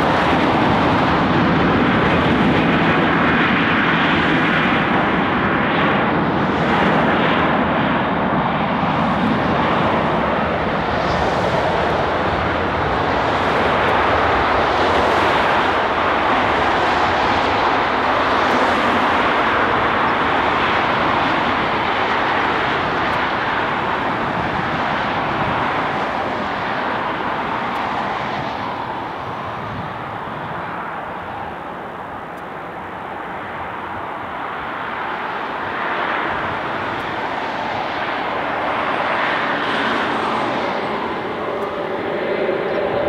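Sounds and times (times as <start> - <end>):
jet engines at take-off thrust: 0.0 - 43.0.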